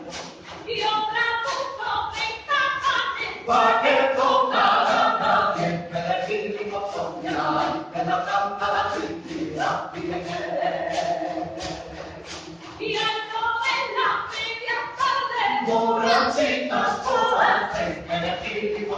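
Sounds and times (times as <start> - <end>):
group singing folk song: 0.0 - 18.9
percussion beat: 0.0 - 18.9.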